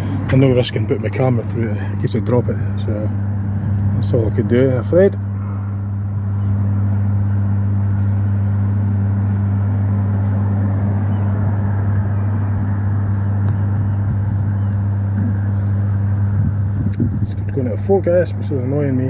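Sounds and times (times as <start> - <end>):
steady low hum: 0.0 - 19.0
street traffic: 0.0 - 19.0.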